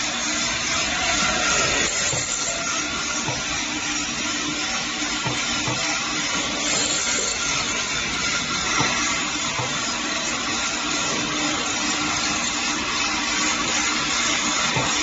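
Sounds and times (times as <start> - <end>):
filling machine whirr and hiss: 0.0 - 15.0.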